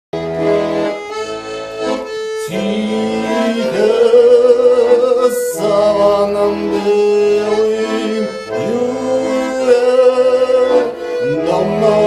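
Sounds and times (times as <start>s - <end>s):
accordion playing held chords: 0.1s - 12.0s.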